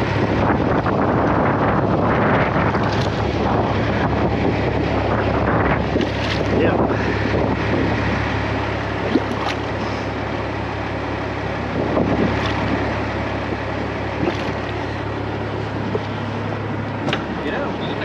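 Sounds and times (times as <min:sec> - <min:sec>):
truck engine idling: 0:00.0 - 0:18.0
wind noise on microphone: 0:00.0 - 0:18.0.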